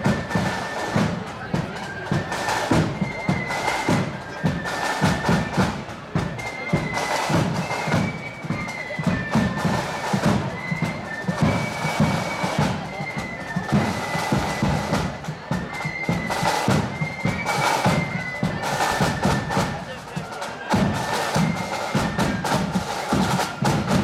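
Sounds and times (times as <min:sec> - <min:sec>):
flute band melody: 0:00.0 - 0:24.0
snare and bass drums: 0:00.0 - 0:24.0.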